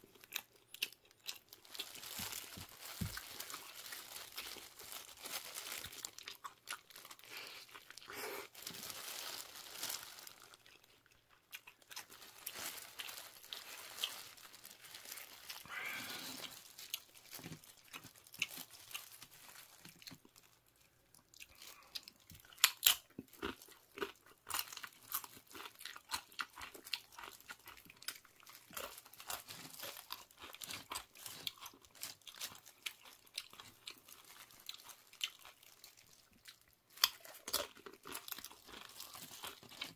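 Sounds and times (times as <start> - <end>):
plastic glove and wrapper crinkling: 0.0 - 23.8, 24.5 - 39.9
crunching tortilla chips: 0.0 - 39.9.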